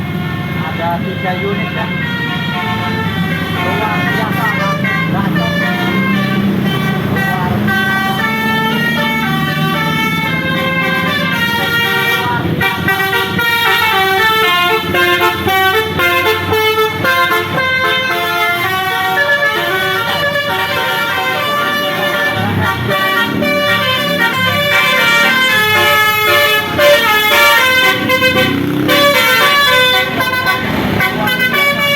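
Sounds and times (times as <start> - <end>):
multi-tone air horn melody: 0.0 - 31.9
bus engine running: 2.2 - 31.9.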